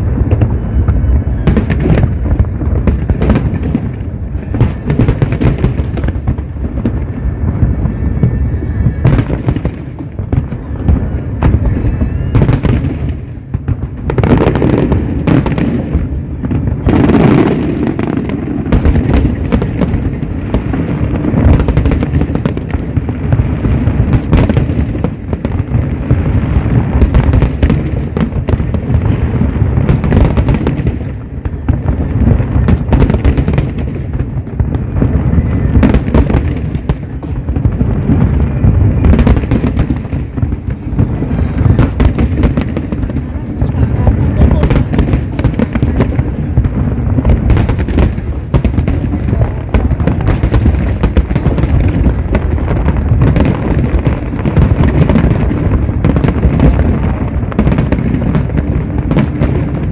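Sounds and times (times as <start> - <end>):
fireworks booming rumble: 0.0 - 59.9
fireworks sharp cracks: 0.0 - 59.9.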